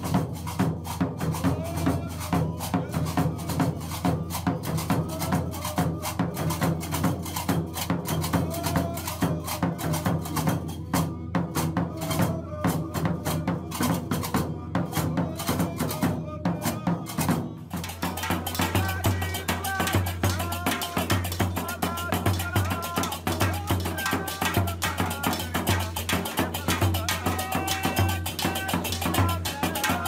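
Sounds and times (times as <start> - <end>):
large drums beaten with sticks: 0.0 - 30.0.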